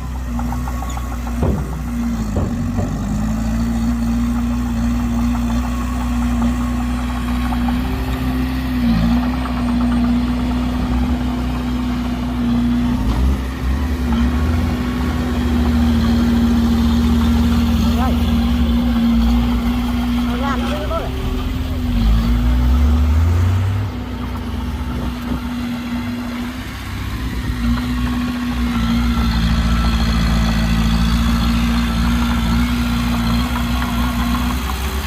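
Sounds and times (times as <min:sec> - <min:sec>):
heavy diesel engine rumbling: 0:00.0 - 0:35.0.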